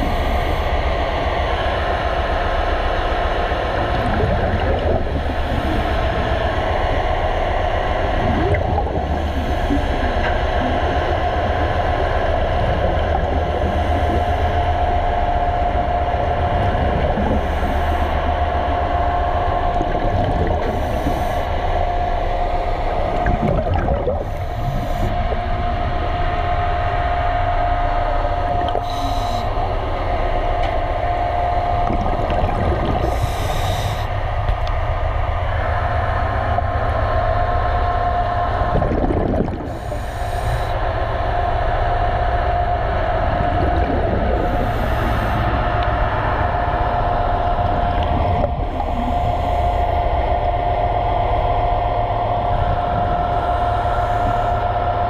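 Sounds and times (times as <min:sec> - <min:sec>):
underwater machinery hum: 0:00.0 - 0:55.0.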